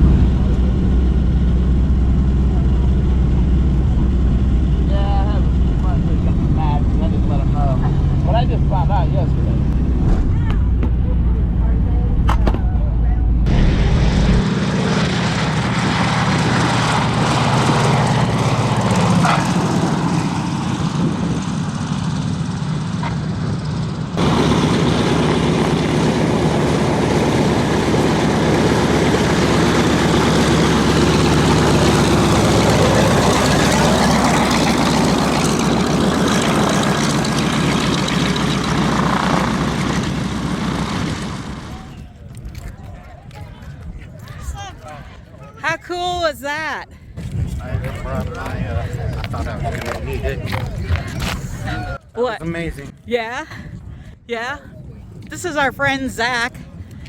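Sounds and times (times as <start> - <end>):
twin propeller engines droning: 0.0 - 57.0.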